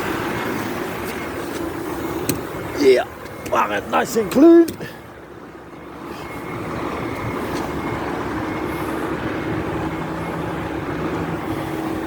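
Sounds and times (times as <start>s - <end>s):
diesel truck engine reversing: 0.0s - 12.0s.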